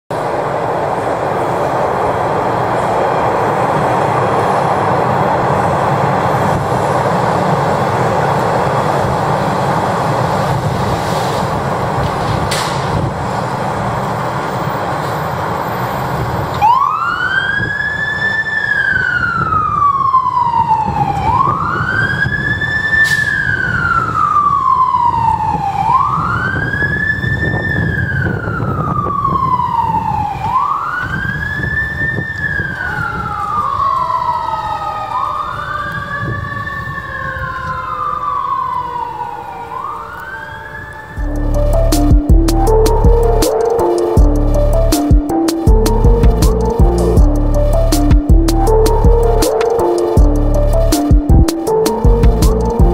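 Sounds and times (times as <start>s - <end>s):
fire engine siren wailing: 2.4s - 52.9s.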